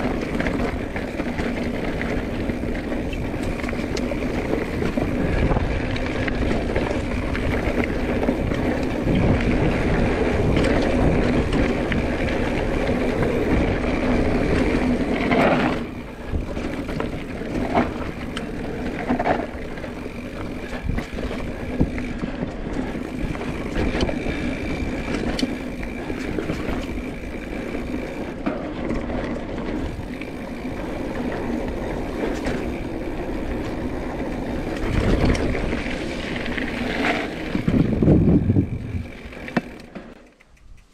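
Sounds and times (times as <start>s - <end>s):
wind noise on microphone: 0.0s - 28.3s, 29.6s - 39.8s
tyre rumble over trail: 0.0s - 40.2s
bike clicks and rattles: 0.0s - 40.9s.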